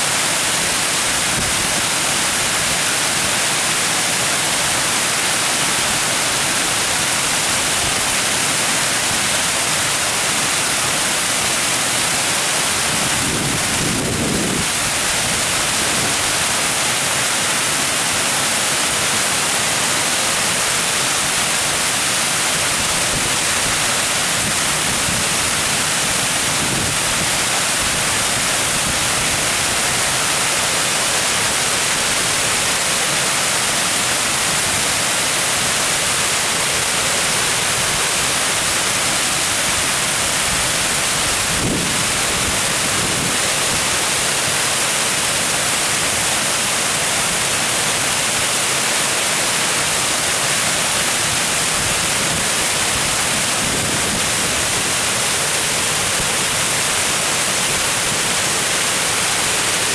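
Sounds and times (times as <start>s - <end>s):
water rushing over a weir: 0.0s - 59.9s.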